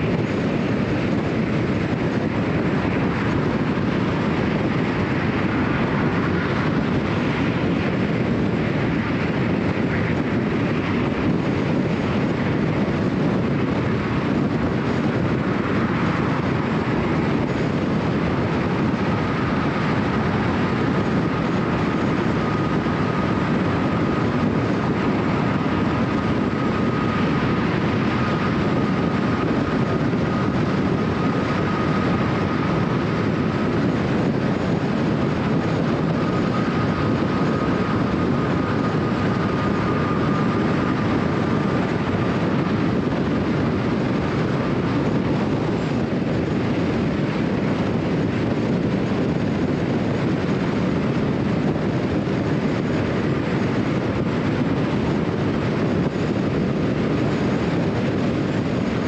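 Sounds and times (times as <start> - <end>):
faint even whine: 0.0 - 58.9
road and tyre noise: 0.0 - 59.0.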